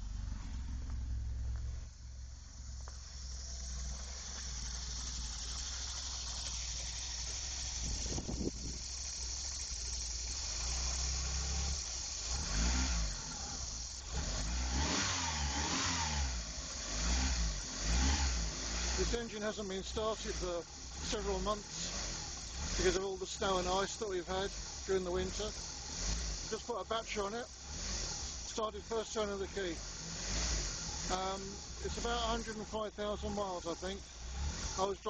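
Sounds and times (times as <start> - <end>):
car engine idling: 0.0 - 35.0
engine throttle blips: 0.0 - 35.0.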